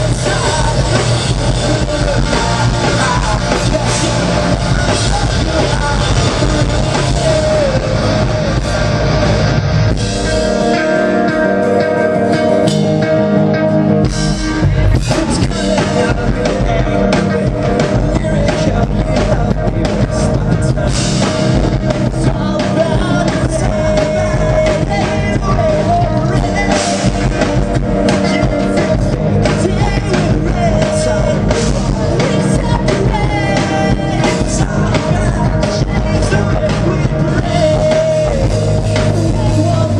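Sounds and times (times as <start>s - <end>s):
bass guitar: 0.0s - 39.9s
drum kit: 0.0s - 39.9s
electric guitars: 0.0s - 39.9s
person singing: 0.0s - 39.9s.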